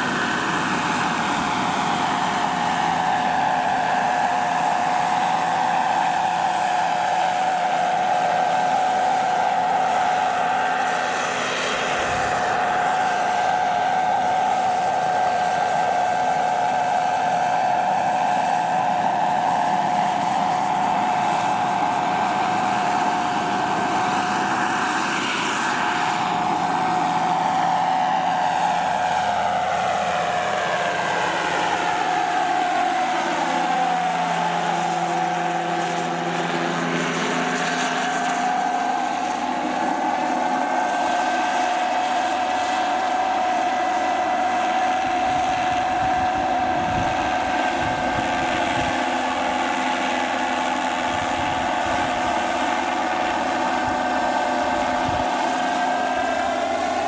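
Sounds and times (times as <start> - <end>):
helicopter rotor rush: 0.0 - 57.0
turbine high whine: 0.0 - 57.0.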